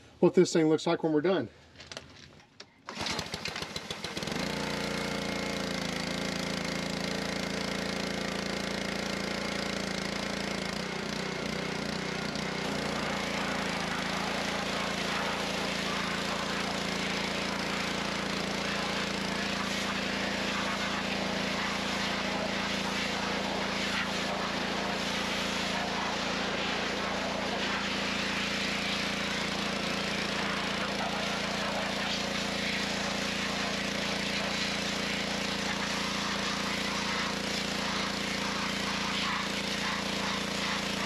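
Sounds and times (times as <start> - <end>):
pressure washer engine starting: 2.8 - 41.0.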